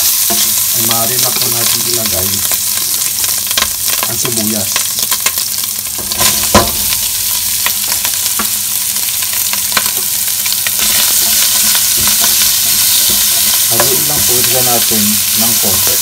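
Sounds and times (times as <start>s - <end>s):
pork sizzling in fat: 0.0s - 16.0s.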